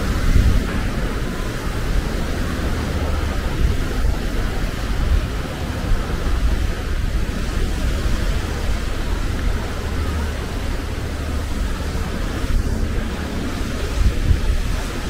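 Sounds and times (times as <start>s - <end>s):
seaside ambience hiss: 0.0s - 15.0s
wind buffeting microphone: 0.0s - 15.0s.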